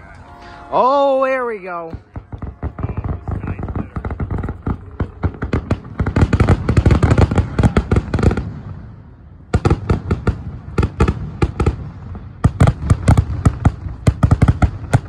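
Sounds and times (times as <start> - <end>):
fireworks bangs and crackles: 1.3 - 15.0.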